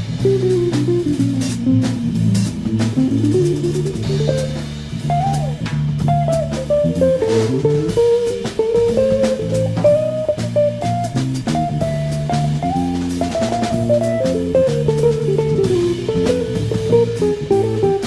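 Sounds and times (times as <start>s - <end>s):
bass guitar: 0.0s - 18.0s
drum kit beat: 0.0s - 18.0s
plucked guitar melody: 0.2s - 18.0s.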